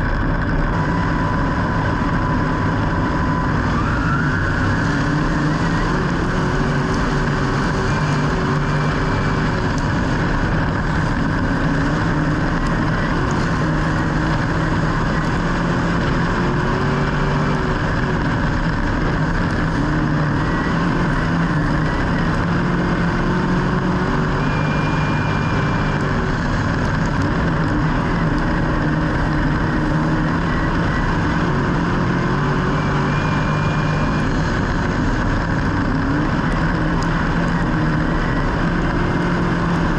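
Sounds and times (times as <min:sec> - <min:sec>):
vehicle engines droning: 0:00.0 - 0:39.9.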